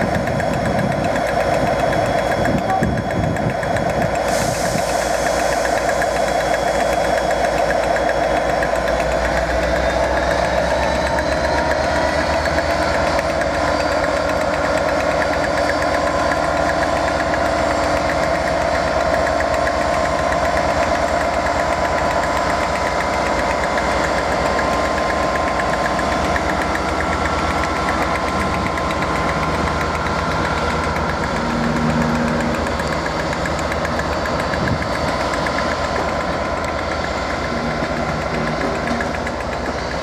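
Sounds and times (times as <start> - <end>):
diesel locomotive idling: 0.0 - 40.0.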